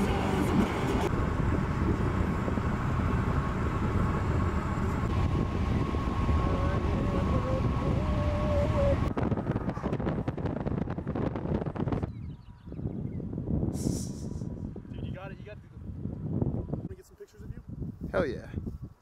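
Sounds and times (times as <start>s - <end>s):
car road and engine rumble: 0.0s - 16.9s.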